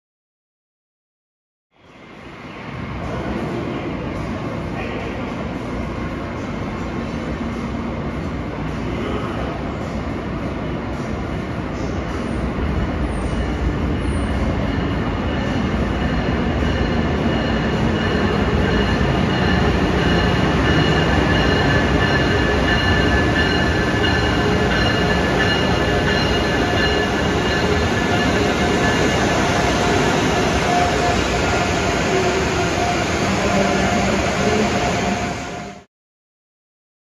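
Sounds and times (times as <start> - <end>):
train rumbling: 1.9 - 35.9.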